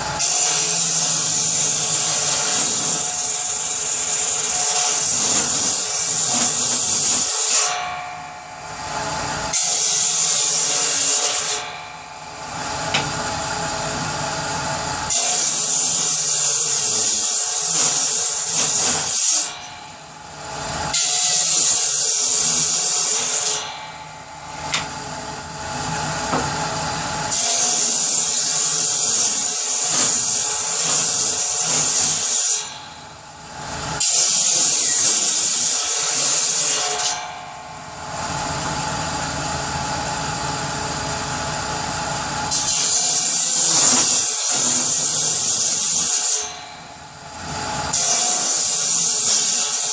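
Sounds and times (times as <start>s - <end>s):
power saw cutting wood: 0.0s - 49.9s
saw running idle: 0.0s - 49.9s.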